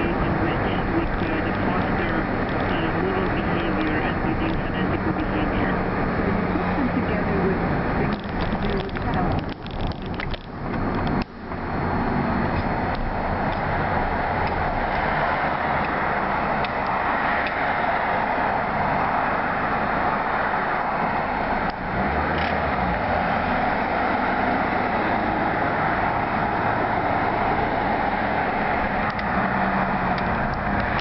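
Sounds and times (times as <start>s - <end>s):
car road and wind noise: 0.0s - 31.0s.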